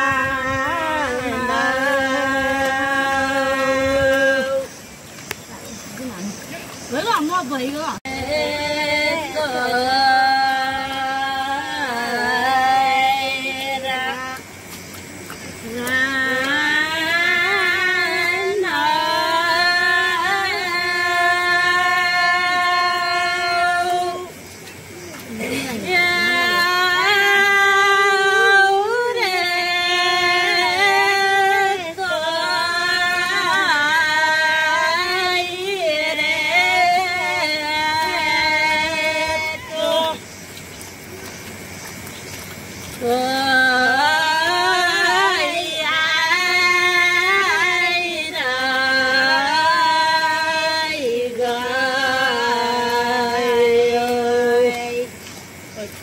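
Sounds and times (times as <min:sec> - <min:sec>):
woman singing: 0:00.0 - 0:04.8, 0:08.0 - 0:14.7, 0:15.6 - 0:24.4, 0:25.3 - 0:40.2, 0:43.0 - 0:55.2.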